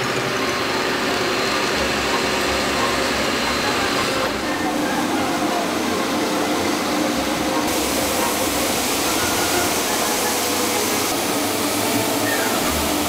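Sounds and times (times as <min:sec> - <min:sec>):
street sweeper rushing noise: 0:00.0 - 0:13.0.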